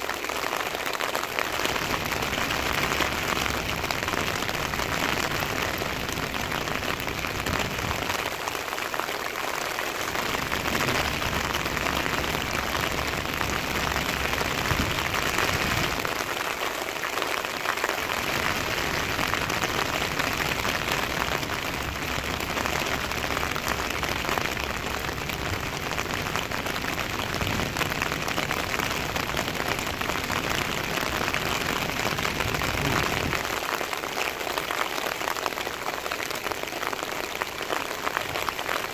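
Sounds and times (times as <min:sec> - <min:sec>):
heavy rain on a road: 0:00.0 - 0:38.9.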